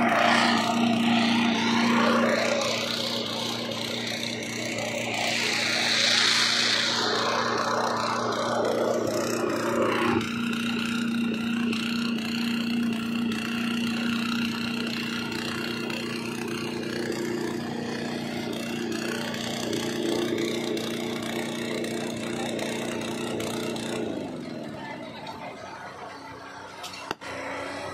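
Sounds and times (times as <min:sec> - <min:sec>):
small petrol engine running: 0:00.0 - 0:27.9.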